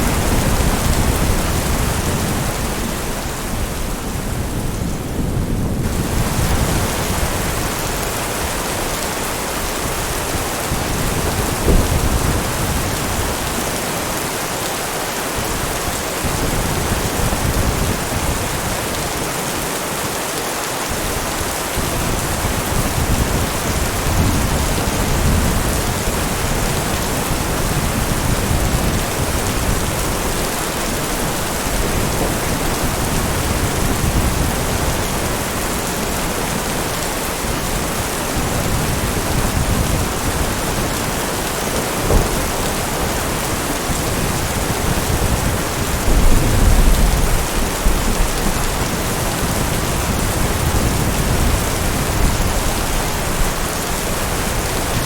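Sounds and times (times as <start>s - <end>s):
thunder rumbling: 0.0s - 13.8s, 21.0s - 55.0s
heavy rain: 0.0s - 55.0s.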